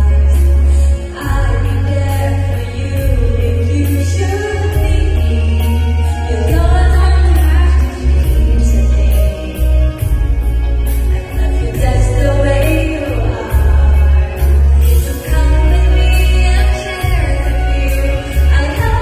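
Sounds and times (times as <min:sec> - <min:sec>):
backing track with heavy bass: 0:00.0 - 0:19.0
person singing: 0:00.0 - 0:19.0.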